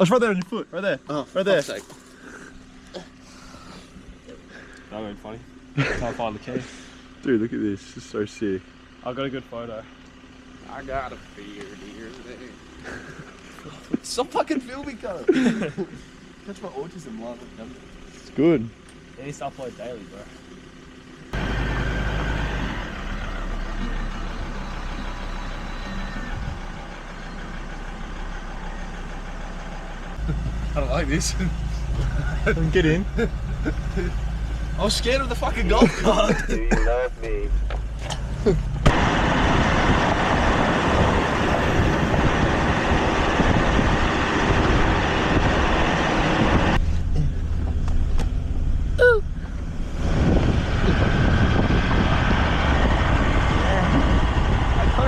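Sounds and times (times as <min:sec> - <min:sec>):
road and wind noise: 0:00.0 - 0:55.0
vehicle engine rumbling: 0:00.0 - 0:55.0.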